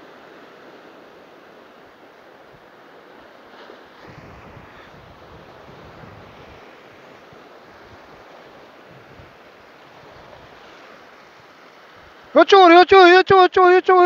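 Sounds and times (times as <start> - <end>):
ocean surf washing over rocks: 0.0 - 14.0.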